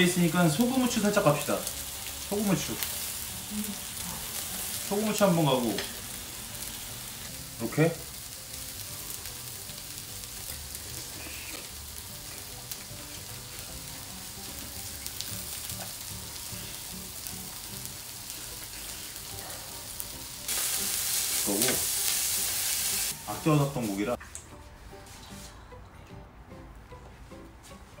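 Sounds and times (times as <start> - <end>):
meat sizzling on a grill pan: 0.0 - 24.2.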